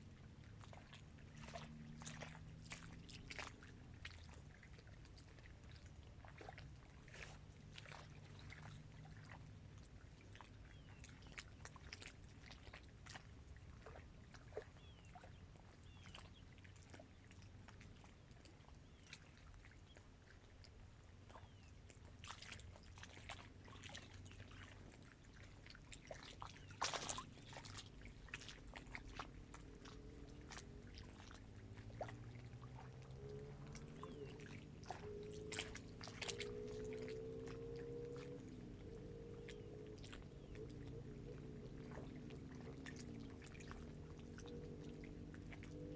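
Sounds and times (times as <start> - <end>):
faint low rumble: 0.0 - 45.9
small waves lapping: 0.0 - 45.9.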